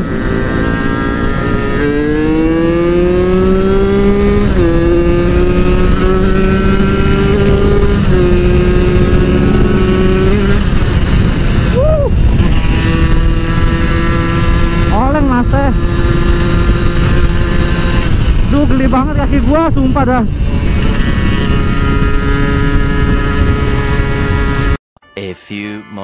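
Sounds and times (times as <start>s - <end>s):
two-stroke engine accelerating: 0.0s - 24.8s
wind rushing over microphone: 0.0s - 24.8s.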